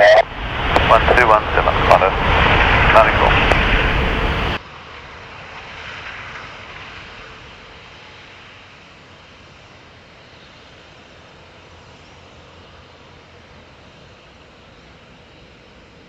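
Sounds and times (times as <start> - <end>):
distant jet engines rumbling: 0.0 - 16.0
wind: 0.0 - 16.0.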